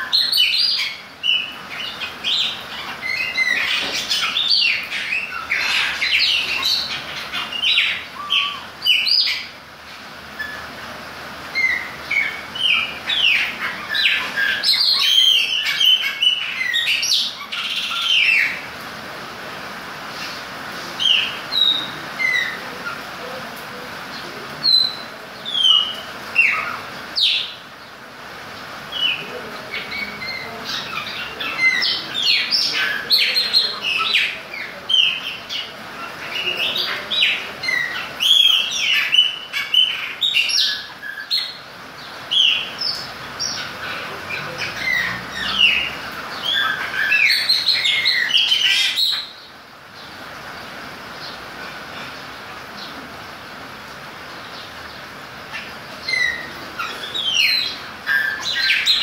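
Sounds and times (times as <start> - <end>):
background hiss: 0.0 - 59.0
blackbirds singing: 0.0 - 59.0.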